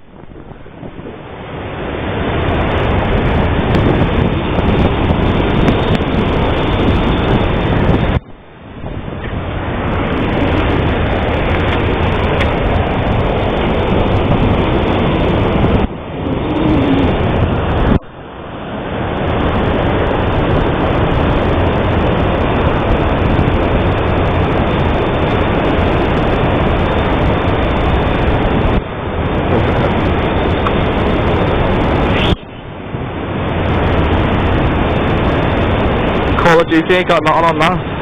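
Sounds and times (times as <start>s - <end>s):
wind and ship rumble: 0.0s - 38.0s.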